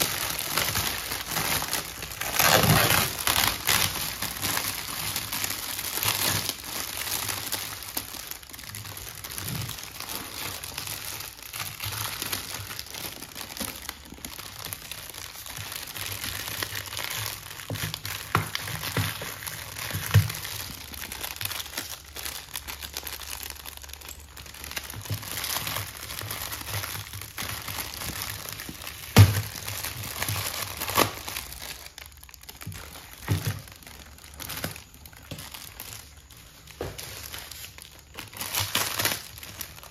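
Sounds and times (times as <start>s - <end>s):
plastic wrapping crinkling: 0.0s - 39.9s.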